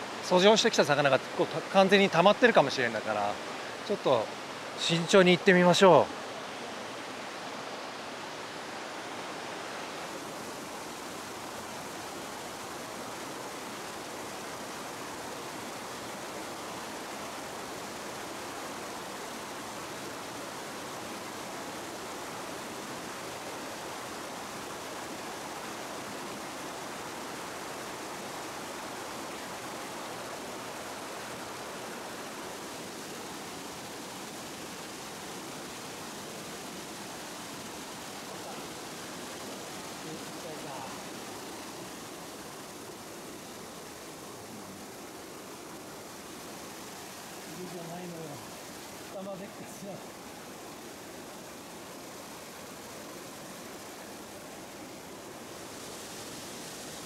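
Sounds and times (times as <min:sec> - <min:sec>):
water rushing over rapids: 0:00.0 - 0:57.0.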